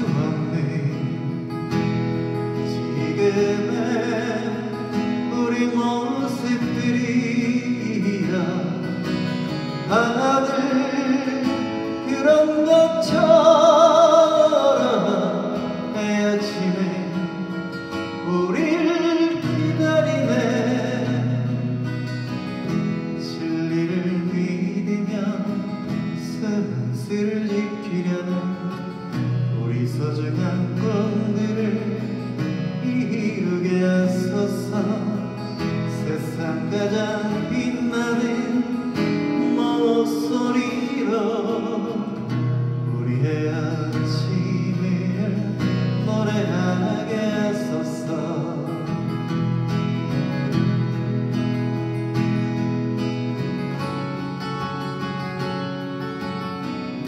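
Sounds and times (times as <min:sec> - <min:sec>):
man singing a ballad: 0:00.0 - 0:49.4
strummed acoustic guitar: 0:00.0 - 0:57.0.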